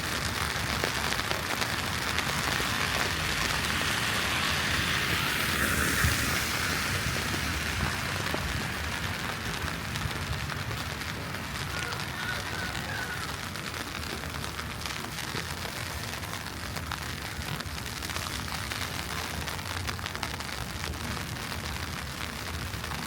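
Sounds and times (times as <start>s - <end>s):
hiss of falling snow and slush: 0.0s - 23.0s
traffic rumble: 0.0s - 23.0s.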